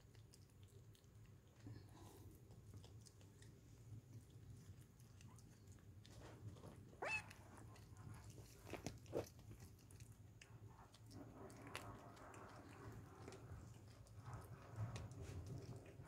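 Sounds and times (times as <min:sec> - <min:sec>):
cat chewing wetly: 0:00.0 - 0:16.0.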